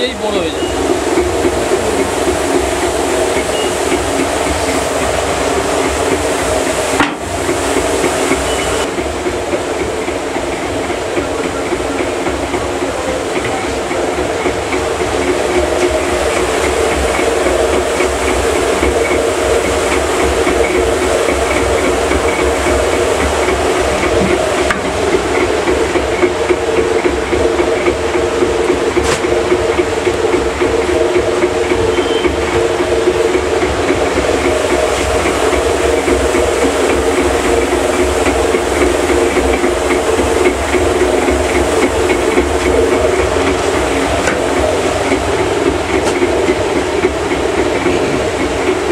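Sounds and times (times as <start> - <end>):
rotating drum machine rumbling: 0.0 - 48.9.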